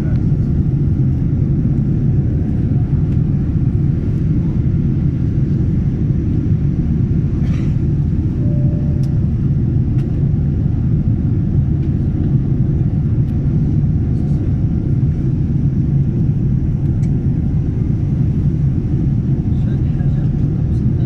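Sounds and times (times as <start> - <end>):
jet cabin engine rumble: 0.0 - 21.0.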